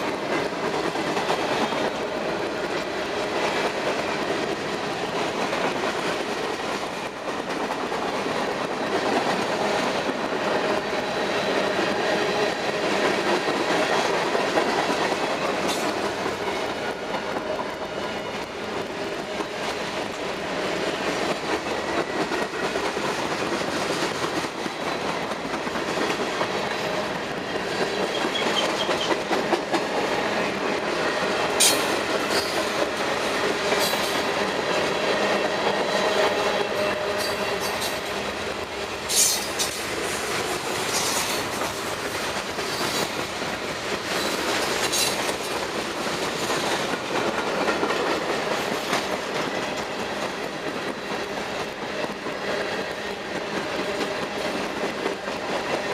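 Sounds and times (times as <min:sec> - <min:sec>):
rhythmic clacking over rail joints: 0:00.0 - 0:55.9
train wheels rumbling on rail: 0:00.0 - 0:55.9.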